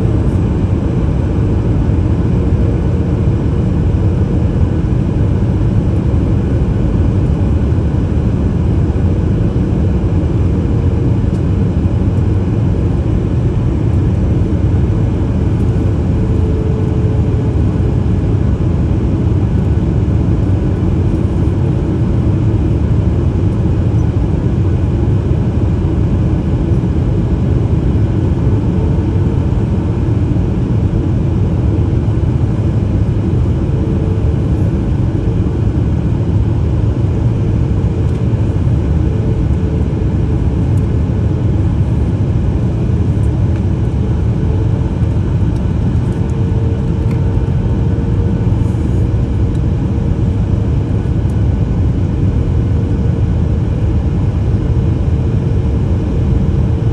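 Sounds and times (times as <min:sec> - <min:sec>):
airplane cabin roar: 0:00.0 - 0:56.9.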